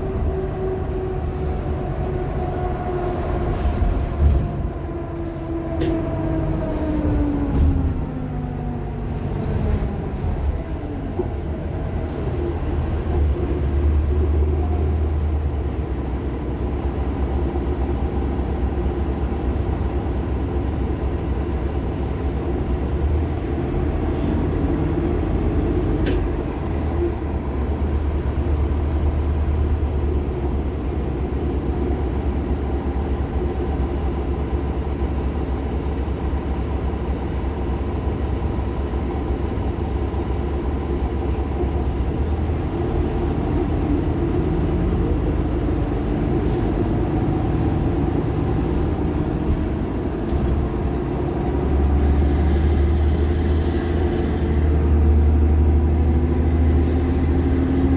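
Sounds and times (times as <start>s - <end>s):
bus engine low rumble: 0.0s - 57.9s.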